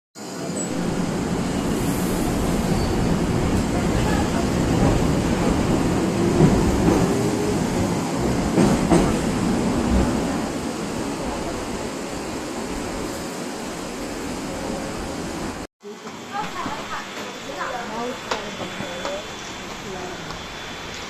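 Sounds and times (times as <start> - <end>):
train rumbling: 0.3 - 15.7, 16.4 - 21.0.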